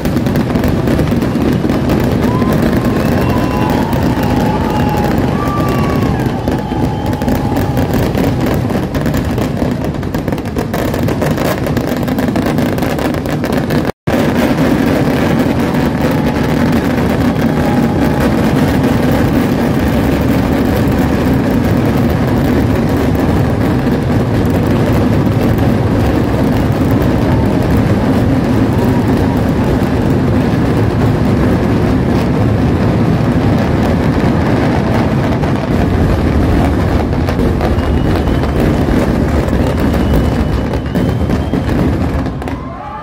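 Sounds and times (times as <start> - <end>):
fireworks crackling barrage: 0.0 - 43.0.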